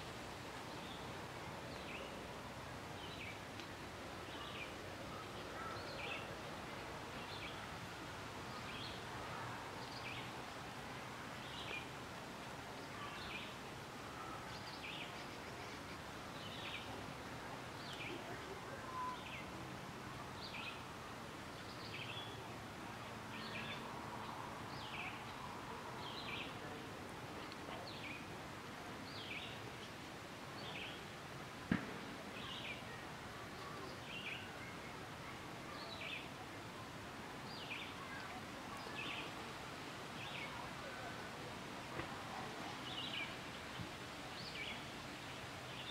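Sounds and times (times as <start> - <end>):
outdoor background noise: 0.0 - 45.9.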